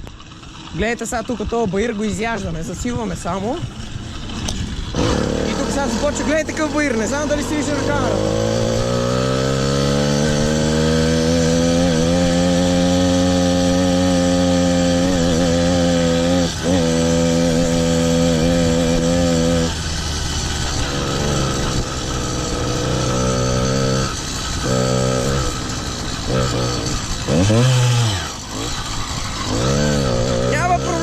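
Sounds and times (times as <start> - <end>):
small two-stroke engine running: 0.0 - 31.0.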